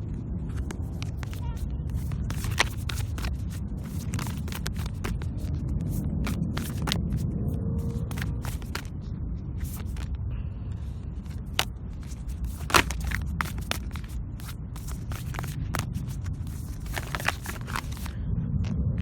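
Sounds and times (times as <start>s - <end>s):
low steady rumble: 0.0s - 19.0s
cards being shuffled: 0.6s - 7.2s, 7.8s - 9.0s, 9.6s - 10.2s, 11.2s - 18.1s.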